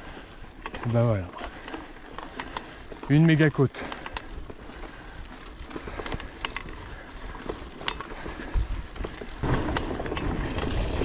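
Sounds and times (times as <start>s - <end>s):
bike clicks and rattles: 0.0s - 11.0s
bike tyres on dirt: 0.0s - 11.0s.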